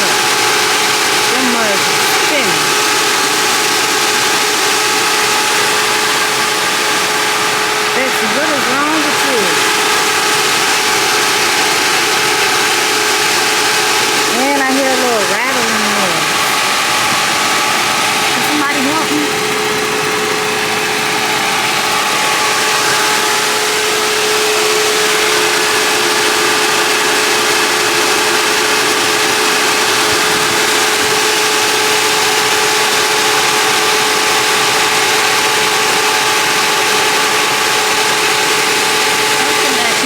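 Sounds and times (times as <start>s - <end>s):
car engine idling: 0.0s - 40.0s
radiator fans whining: 0.0s - 40.0s.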